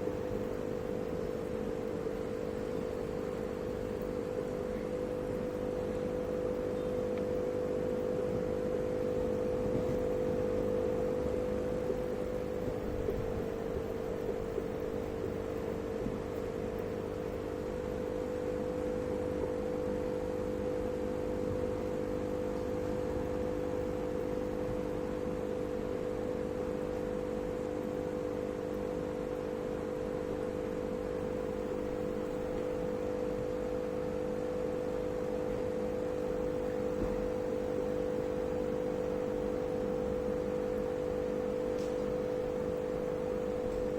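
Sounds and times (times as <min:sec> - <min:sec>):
aquarium pump humming: 0:00.0 - 0:43.9.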